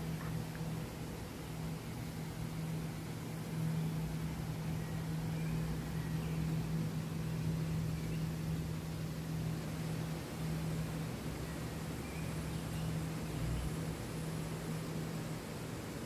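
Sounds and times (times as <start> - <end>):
running water hiss: 0.0 - 16.0
steady low hum: 0.0 - 16.0.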